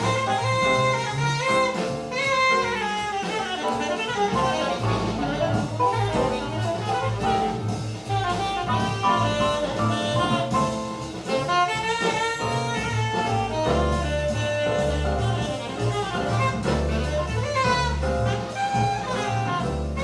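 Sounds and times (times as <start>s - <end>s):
jazz through speakers: 0.0s - 20.0s.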